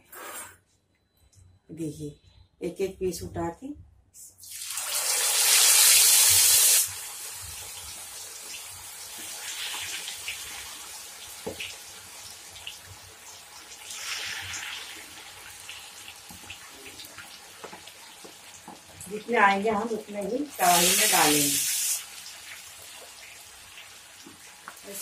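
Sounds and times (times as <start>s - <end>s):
deep frying sizzle in hot oil: 4.4s - 25.0s.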